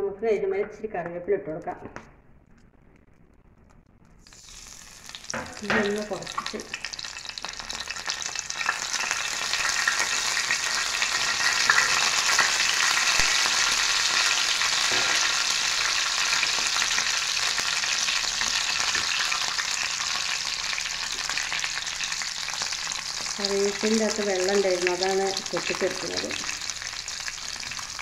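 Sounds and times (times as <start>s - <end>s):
leaves sizzling and crackling in oil: 4.2s - 28.0s.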